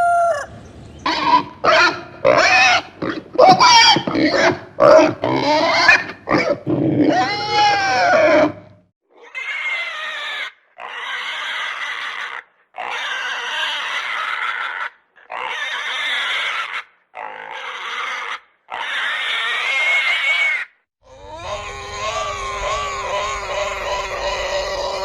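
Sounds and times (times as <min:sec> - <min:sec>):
pig squealing: 0:00.0 - 0:25.0.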